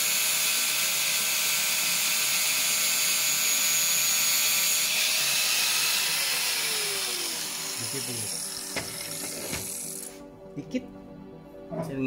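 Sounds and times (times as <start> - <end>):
angle grinder grinding metal: 0.0 - 10.2.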